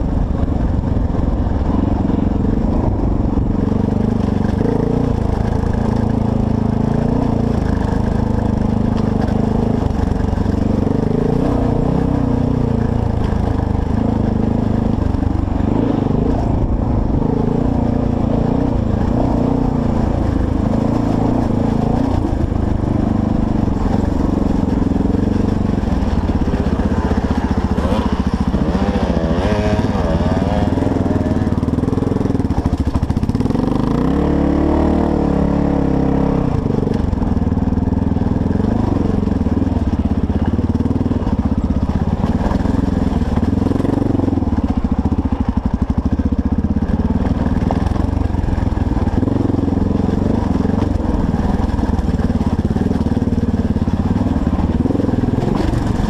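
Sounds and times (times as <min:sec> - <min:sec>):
motorcycle engine running: 0:00.0 - 0:56.0
motorcycle throttle blips: 0:00.0 - 0:56.0.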